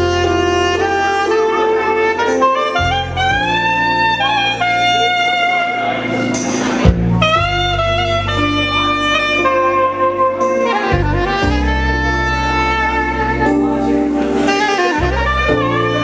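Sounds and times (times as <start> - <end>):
low sustained bass notes: 0.0 - 16.0
soprano saxophone melody: 0.0 - 16.0.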